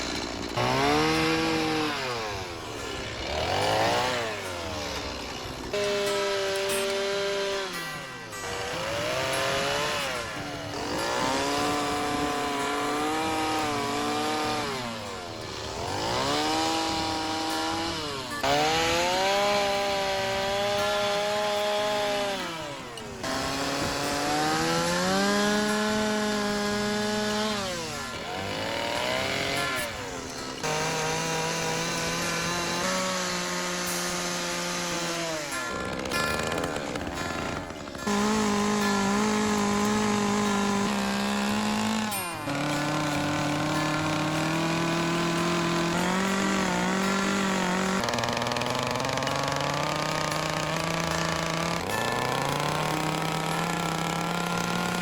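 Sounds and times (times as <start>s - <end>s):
chainsaw revving and cutting wood: 0.0s - 55.0s.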